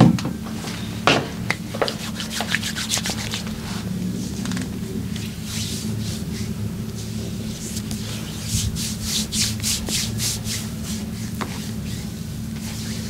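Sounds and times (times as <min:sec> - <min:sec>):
steady low hum: 0:00.0 - 0:13.0
hands rubbing skin: 0:01.8 - 0:13.0.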